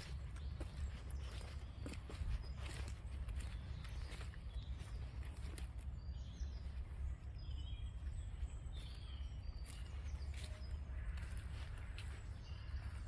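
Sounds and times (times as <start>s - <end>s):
footsteps on a path: 0.0s - 13.0s
small birds chirping: 0.0s - 13.0s.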